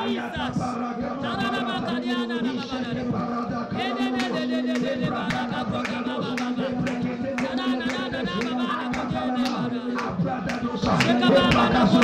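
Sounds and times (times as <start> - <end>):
man praying into a microphone: 0.0 - 12.0.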